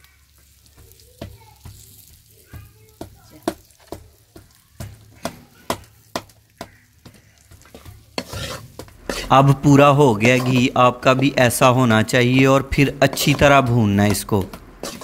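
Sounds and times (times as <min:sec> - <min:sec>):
ghee sizzling faintly: 0:00.0 - 0:15.0.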